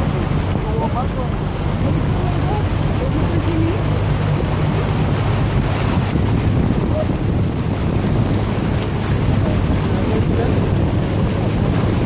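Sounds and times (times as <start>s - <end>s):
floodwater rushing along vehicle: 0.0s - 12.0s
low engine hum: 0.0s - 12.0s
wind buffeting microphone: 0.0s - 12.0s.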